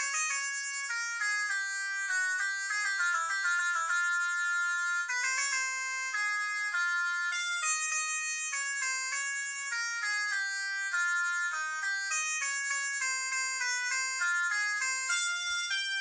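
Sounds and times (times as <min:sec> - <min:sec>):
polyphonic ringtone melody: 0:00.0 - 0:16.0.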